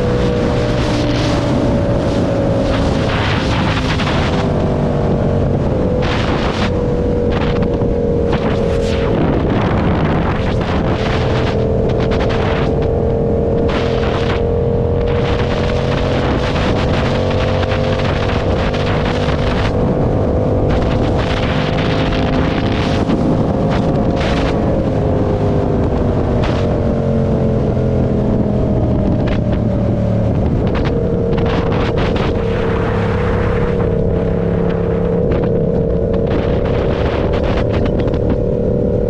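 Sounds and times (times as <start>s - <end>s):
motorcycle engine pulling: 0.0s - 39.0s
wind buffeting microphone: 0.0s - 39.0s.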